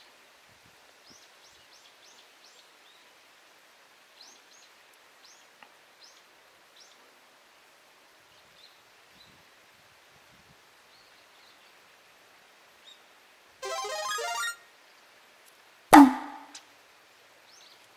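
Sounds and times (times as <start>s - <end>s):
outdoor hiss: 0.0s - 17.9s.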